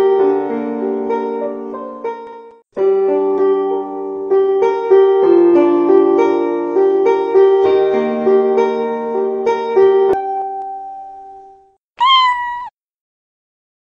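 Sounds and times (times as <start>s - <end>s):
piano music: 0.0s - 11.8s.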